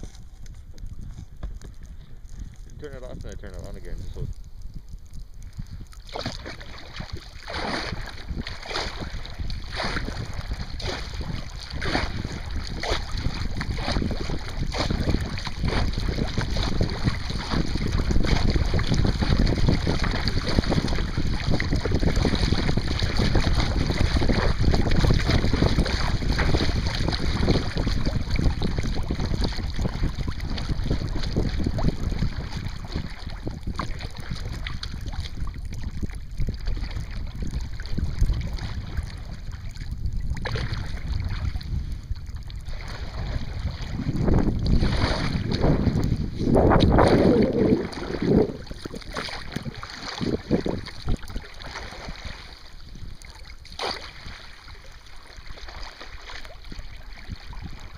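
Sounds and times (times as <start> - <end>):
wind buffeting microphone: 0.0 - 57.9
paddle strokes splashing water: 5.6 - 57.9.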